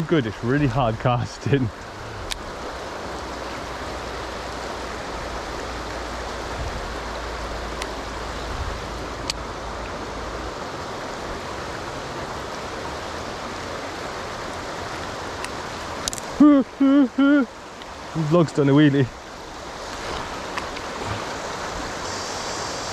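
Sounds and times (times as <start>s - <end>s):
river water rushing over stones: 0.0s - 22.9s.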